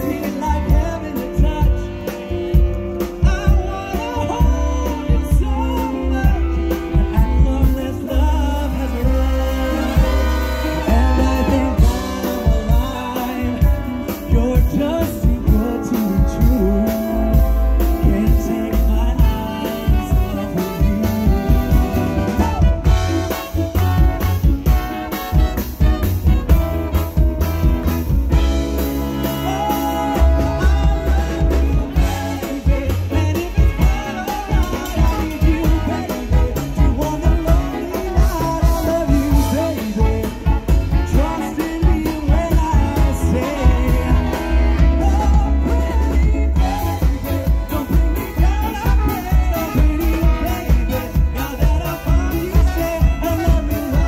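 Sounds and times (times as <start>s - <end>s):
man singing: 0.0s - 54.0s
steady drum beat: 0.0s - 54.0s
swing band with horns: 0.0s - 54.0s.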